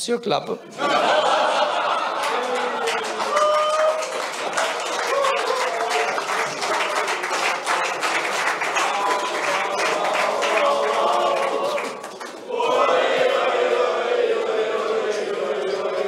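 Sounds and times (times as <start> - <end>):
audience applauding: 0.8 - 16.0.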